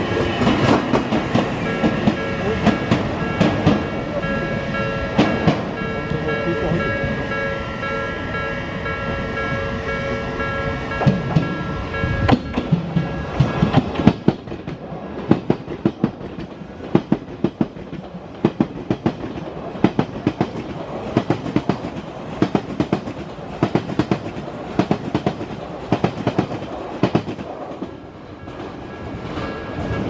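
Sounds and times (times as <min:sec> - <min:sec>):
wheels clacking over rail joints: 0:00.0 - 0:07.4, 0:09.4 - 0:30.0.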